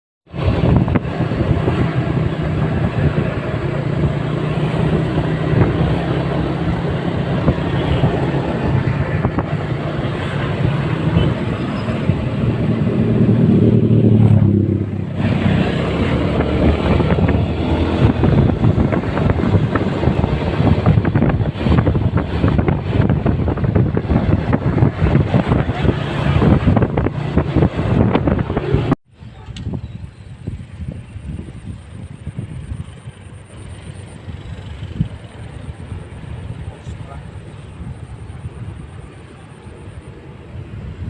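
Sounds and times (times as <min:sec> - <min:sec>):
wind buffeting microphone: 0:00.3 - 0:41.0.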